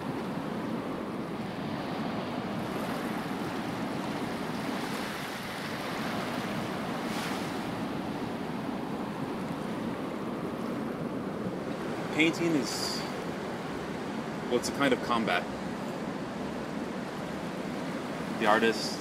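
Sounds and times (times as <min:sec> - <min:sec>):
ocean surf: 0:00.0 - 0:19.0.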